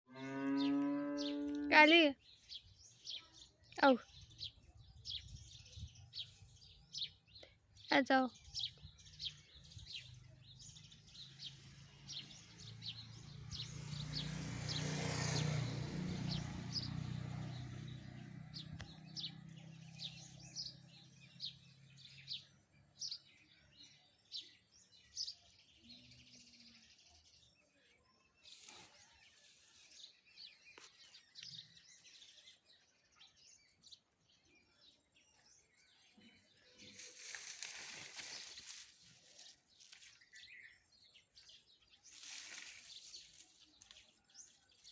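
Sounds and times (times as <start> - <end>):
small birds chirping: 0.2 - 44.9.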